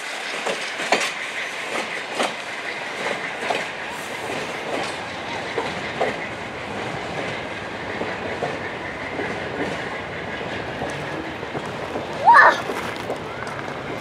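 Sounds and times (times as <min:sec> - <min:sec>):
steel wheels clicking over rail joints: 0:00.0 - 0:14.0
train rumble: 0:00.0 - 0:14.0.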